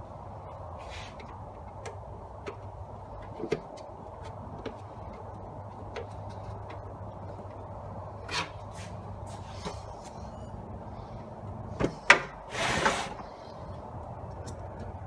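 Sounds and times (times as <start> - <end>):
low steady hum: 0.0 - 12.5.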